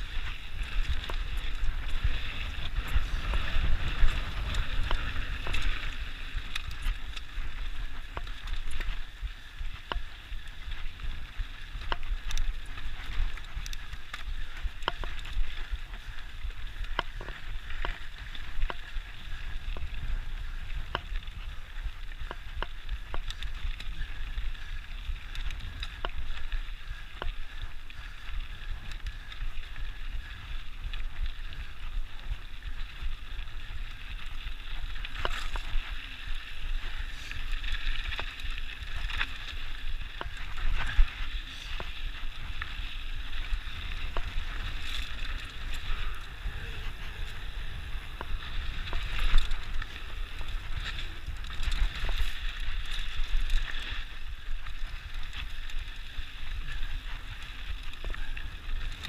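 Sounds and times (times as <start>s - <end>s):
bike rattling over bumps: 0.0s - 59.0s
bike tyres on gravel: 0.0s - 59.0s
wind on microphone: 0.0s - 59.0s.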